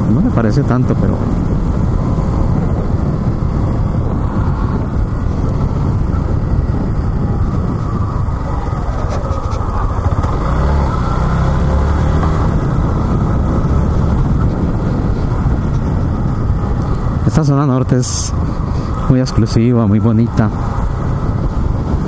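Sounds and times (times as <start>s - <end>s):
motorcycle engine running: 0.0s - 22.0s
riding noise rush: 0.0s - 22.0s.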